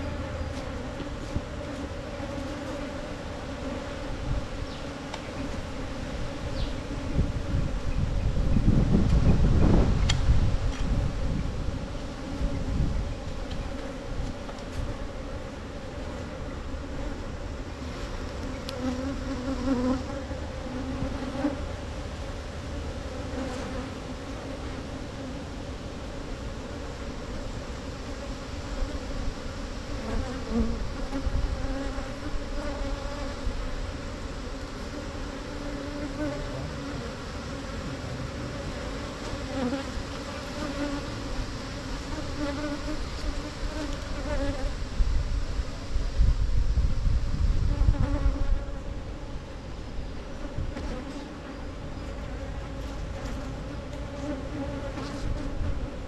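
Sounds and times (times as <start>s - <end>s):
bees buzzing: 0.0s - 8.9s, 10.9s - 25.4s, 26.2s - 44.8s, 47.7s - 56.0s.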